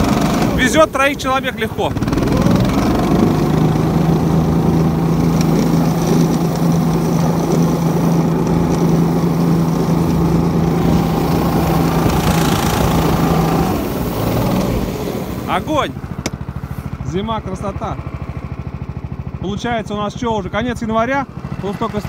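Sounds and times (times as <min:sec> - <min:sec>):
snow pusher engine running: 0:00.0 - 0:22.0.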